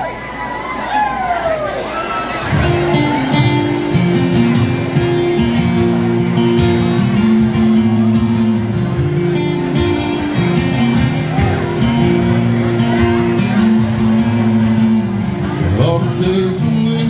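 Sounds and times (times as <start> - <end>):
acoustic guitars strumming: 2.4 - 17.0.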